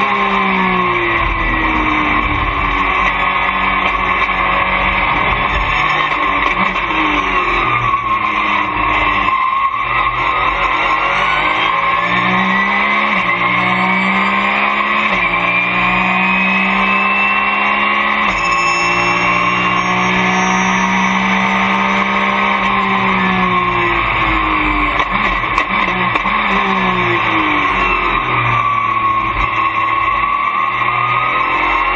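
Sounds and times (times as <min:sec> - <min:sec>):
race car engine at full throttle: 0:00.0 - 0:31.9.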